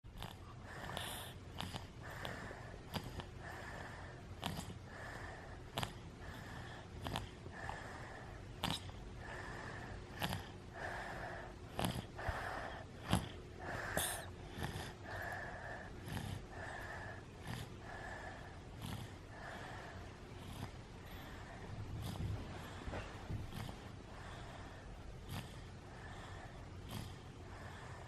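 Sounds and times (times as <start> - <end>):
light wheezy snoring: 0.1 - 28.0.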